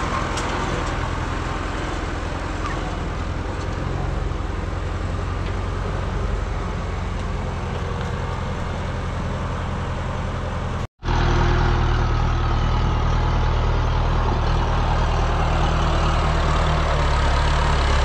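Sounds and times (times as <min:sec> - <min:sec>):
tractor engine humming: 0:00.0 - 0:18.0.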